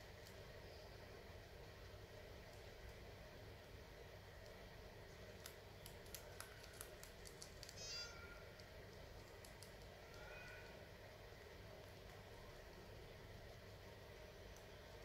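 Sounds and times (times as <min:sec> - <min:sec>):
guinea pigs chewing: 0:00.0 - 0:15.0.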